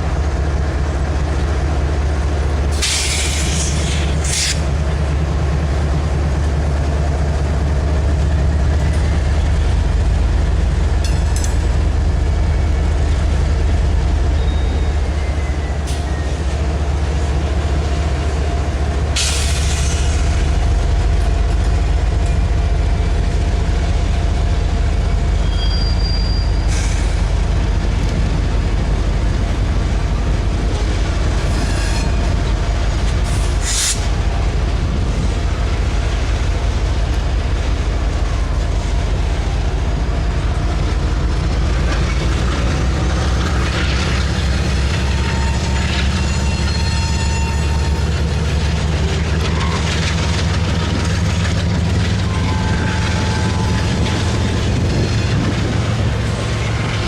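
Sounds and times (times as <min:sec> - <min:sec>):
large vehicle low rumble: 0:00.0 - 0:57.0.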